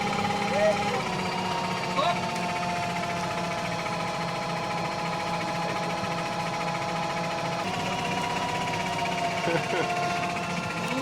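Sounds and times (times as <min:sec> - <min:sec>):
drivetrain whine: 0:00.0 - 0:11.0
tractor engine running: 0:00.0 - 0:11.0.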